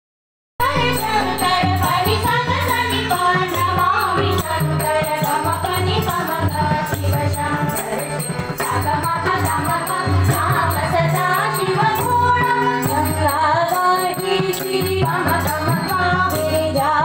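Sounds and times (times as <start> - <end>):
harmonium: 0.6 - 17.0
tabla rhythm: 0.6 - 17.0
women singing in chorus: 0.6 - 17.0
hand cymbals jingling: 0.8 - 17.0.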